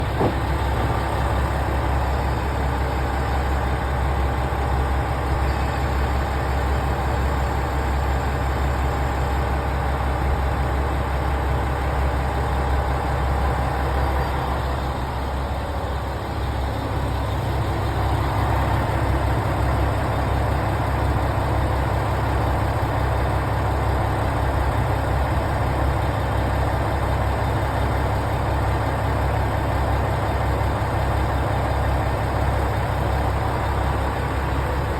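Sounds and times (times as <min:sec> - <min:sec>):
train rumbling: 0:00.0 - 0:34.9.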